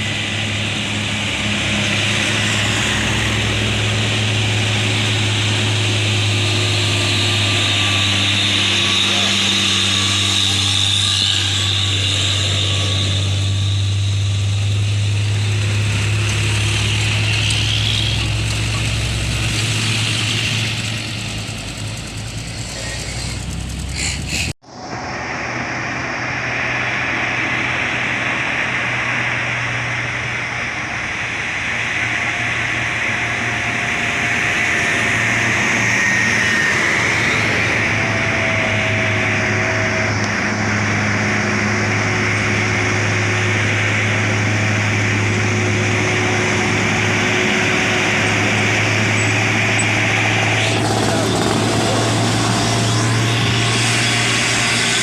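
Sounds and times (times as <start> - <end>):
diesel truck engine under load: 0.0 - 24.6, 31.2 - 55.0
road and traffic noise: 0.0 - 55.0.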